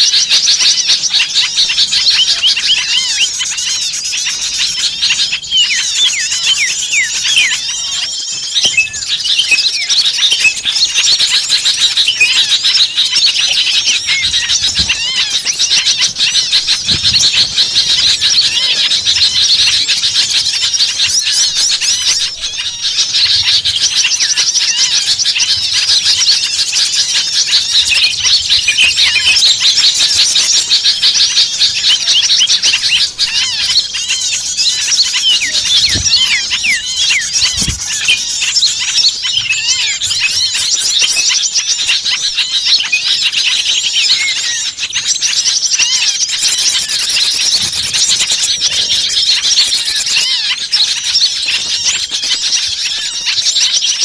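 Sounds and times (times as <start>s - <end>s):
songbirds twittering and chirping: 0.0s - 54.0s.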